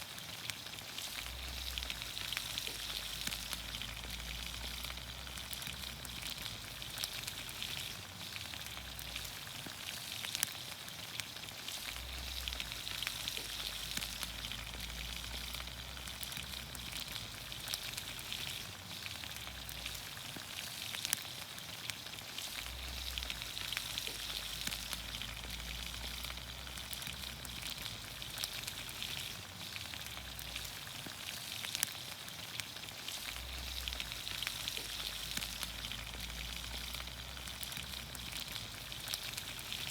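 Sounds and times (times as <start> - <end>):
small pops and crackles: 0.0 - 39.9
vegetables sizzling in oil: 0.0 - 39.9.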